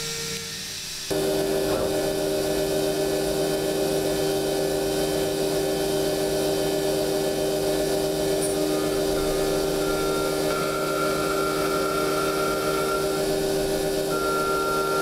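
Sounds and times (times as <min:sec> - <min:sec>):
high machine whine: 0:00.0 - 0:15.0
milling machine cutting metal: 0:00.0 - 0:15.0.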